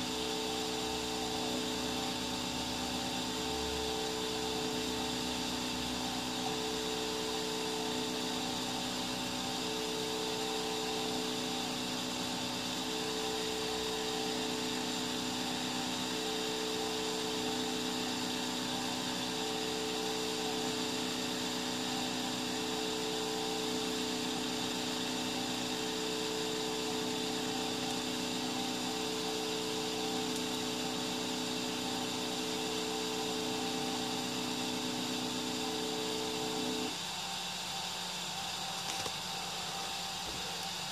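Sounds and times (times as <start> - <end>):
printer mechanical whir: 0.0 - 40.9
whining tone: 0.0 - 40.9.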